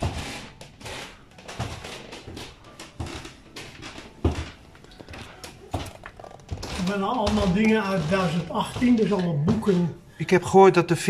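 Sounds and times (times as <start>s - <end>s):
footsteps on wooden floor: 0.0s - 10.1s.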